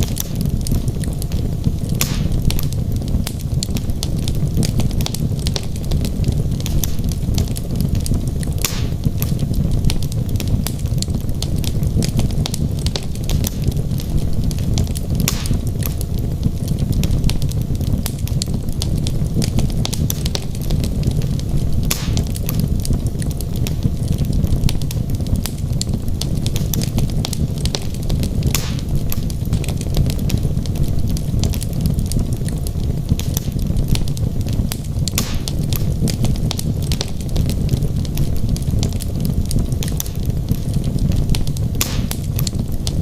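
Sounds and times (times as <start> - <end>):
flames rumbling: 0.0 - 43.0
logs crackling and popping: 0.0 - 43.0.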